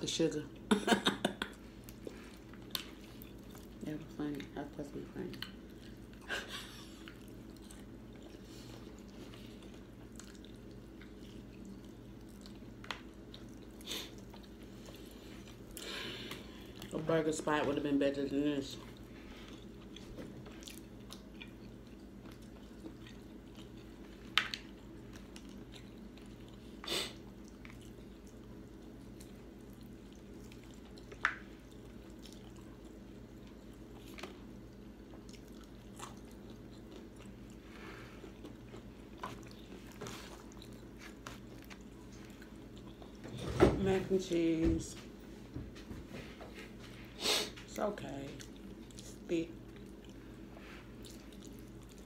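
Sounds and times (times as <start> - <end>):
faint steady hum: 0.0 - 52.0
people chewing food: 0.5 - 43.4, 45.2 - 52.0.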